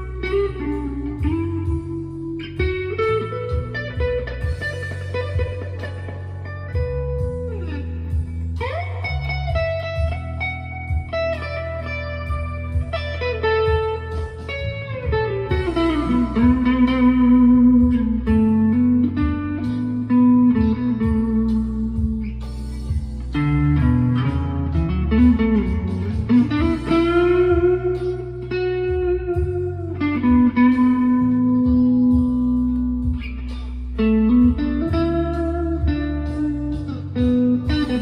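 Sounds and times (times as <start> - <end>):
electric guitar with pitch slides: 0.0 - 38.0.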